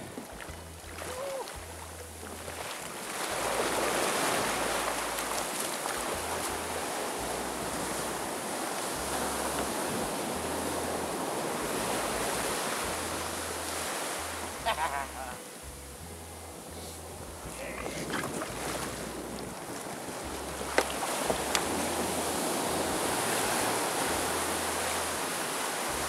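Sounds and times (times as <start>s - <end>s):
surf breaking and washing: 0.0s - 15.6s, 17.4s - 26.0s.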